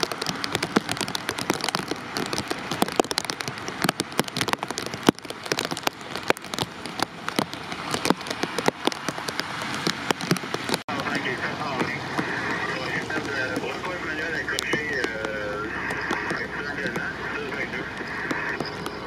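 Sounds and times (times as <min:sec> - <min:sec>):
raindrops tapping near microphone: 0:00.0 - 0:19.0
steady rain hiss: 0:00.0 - 0:19.0.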